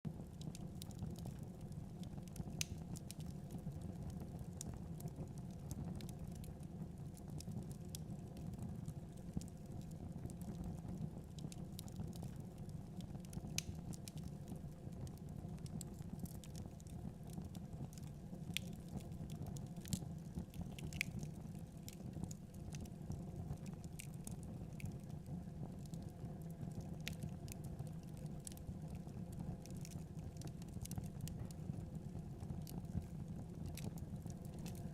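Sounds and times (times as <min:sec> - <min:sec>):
low rumble of flames: 0:00.1 - 0:34.9
logs crackling and popping: 0:00.4 - 0:34.9.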